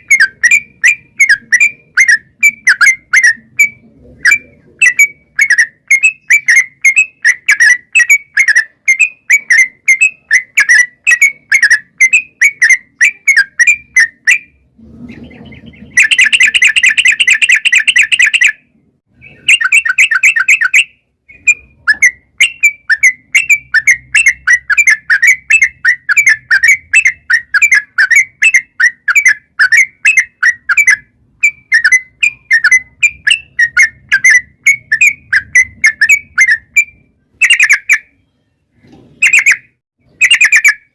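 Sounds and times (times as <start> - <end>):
bird singing chirpy notes: 0.0 - 40.9.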